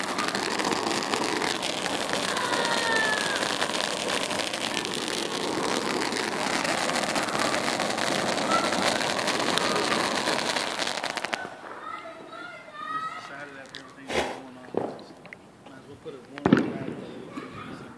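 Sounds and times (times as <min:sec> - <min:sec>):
firework hissing and crackling: 0:00.0 - 0:17.9.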